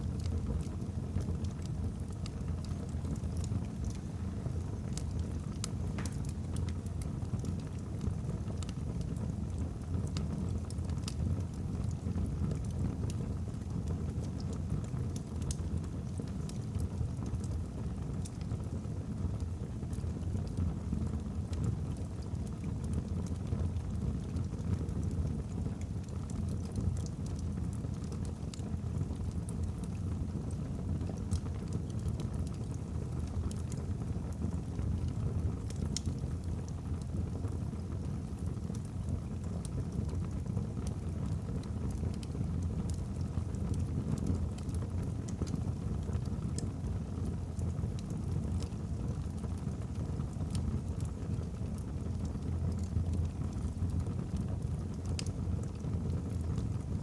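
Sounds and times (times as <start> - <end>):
logs crackling and popping: 0.0 - 57.0.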